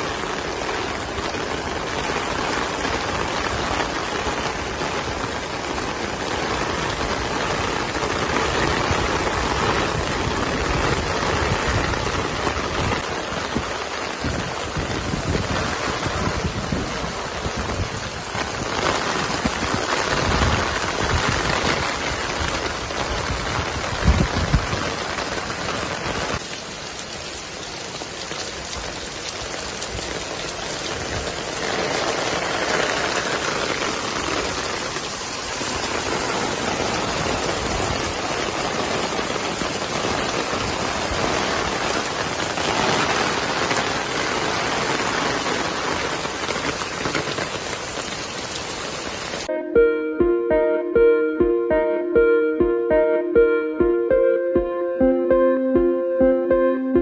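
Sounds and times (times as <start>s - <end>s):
heavy rain pouring: 0.0s - 49.5s.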